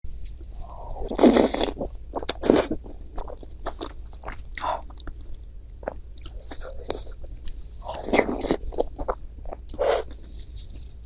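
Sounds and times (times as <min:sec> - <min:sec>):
crunchy biting and chewing: 0:00.6 - 0:11.0.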